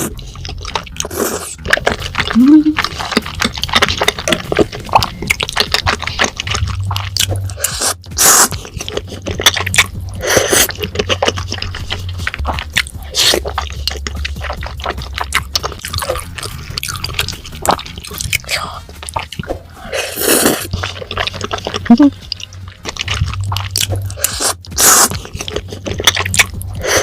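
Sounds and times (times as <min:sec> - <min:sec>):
open-mouthed chewing: 0:00.0 - 0:27.0.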